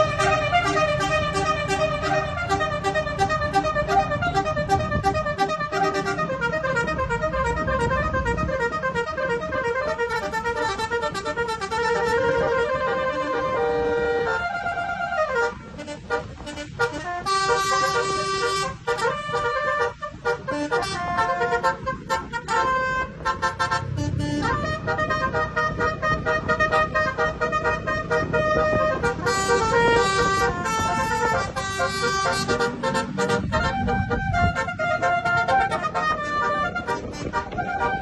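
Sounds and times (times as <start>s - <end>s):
musical vehicle horn playing tune: 0.0s - 38.0s.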